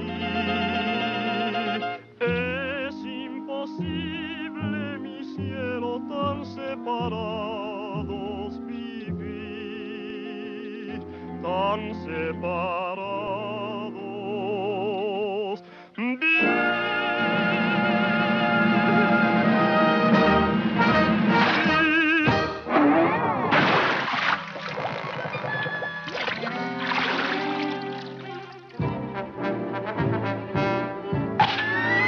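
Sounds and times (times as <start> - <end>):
orchestral cartoon music: 0.0 - 15.4, 16.1 - 32.0.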